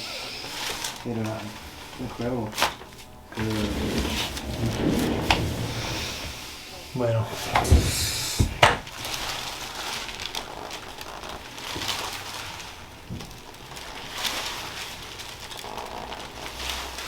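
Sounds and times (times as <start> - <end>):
cloth and paper crinkling: 0.0 - 17.0.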